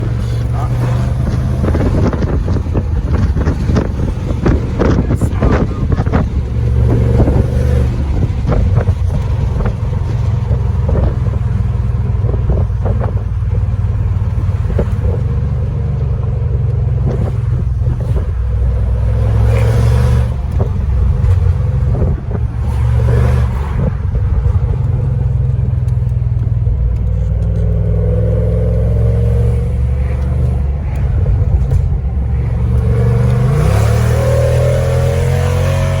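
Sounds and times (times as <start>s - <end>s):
clicks and rustles: 0.0s - 15.5s, 20.3s - 34.8s
deep car engine running: 0.0s - 36.0s.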